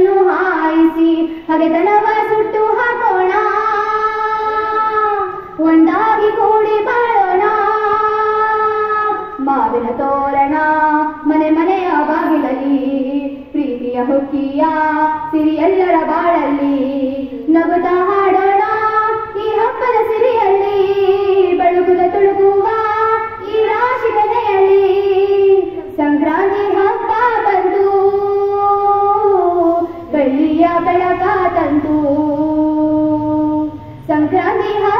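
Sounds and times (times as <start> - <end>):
girls singing together: 0.0 - 34.9.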